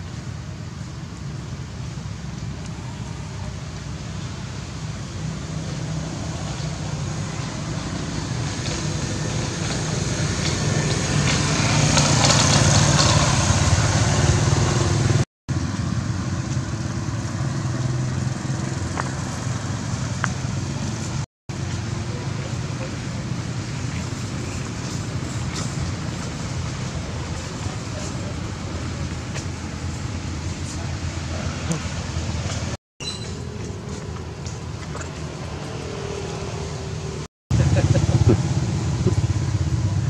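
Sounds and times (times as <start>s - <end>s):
low engine rumble: 0.0s - 40.0s.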